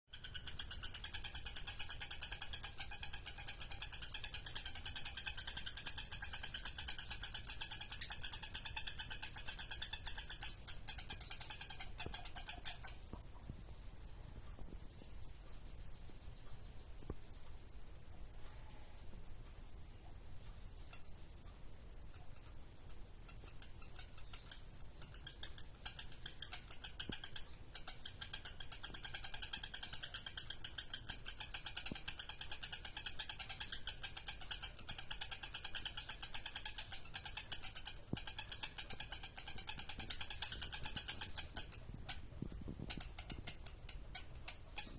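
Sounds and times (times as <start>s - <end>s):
lovebird chattering song: 0.1s - 13.5s, 19.7s - 44.9s.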